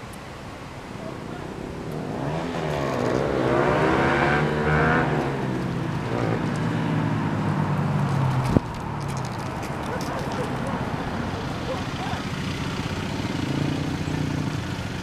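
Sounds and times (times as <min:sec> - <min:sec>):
vehicle engine passing by: 0:01.0 - 0:15.0.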